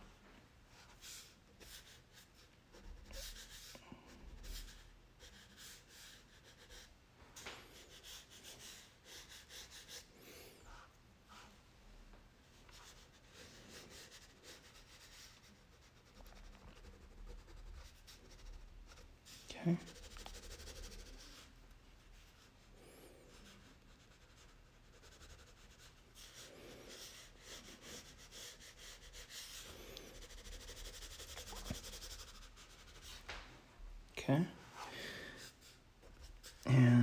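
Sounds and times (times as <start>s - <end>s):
crayon rubbing on paper: 0.8s - 6.9s, 7.7s - 10.1s, 12.7s - 21.5s, 22.1s - 33.2s, 35.2s - 37.0s.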